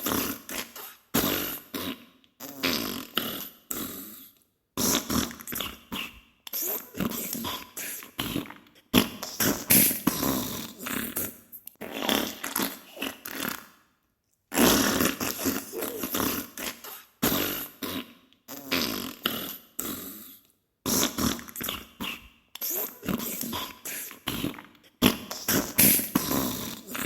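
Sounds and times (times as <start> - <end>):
spluttering fart noises: 0.0 - 4.2, 4.8 - 13.8, 14.5 - 20.2, 20.9 - 27.0.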